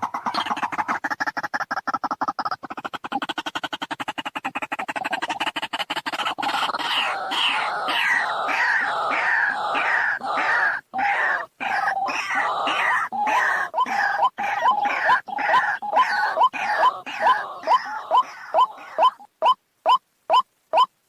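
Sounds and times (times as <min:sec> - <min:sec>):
waterhen calling: 0:00.0 - 0:01.5, 0:02.4 - 0:21.0.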